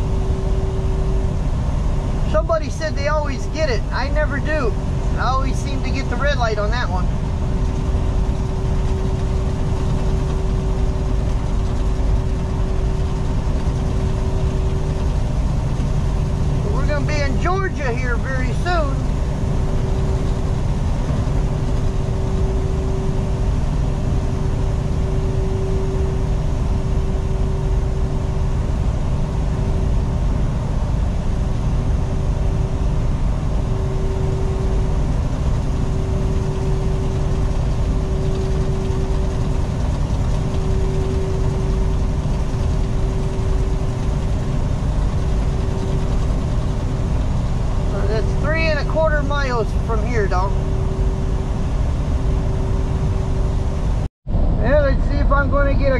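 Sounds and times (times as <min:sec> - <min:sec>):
humming tone: 0:00.0 - 0:54.7
truck engine and road drone: 0:00.0 - 0:55.9.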